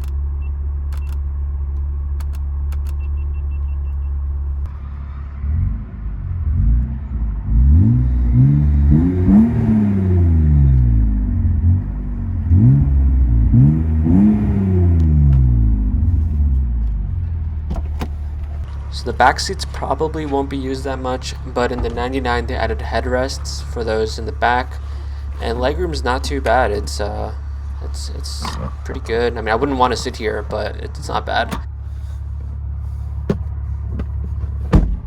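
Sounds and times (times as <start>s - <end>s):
car engine idling: 0.0s - 35.0s
engine revving in blips: 0.0s - 35.0s.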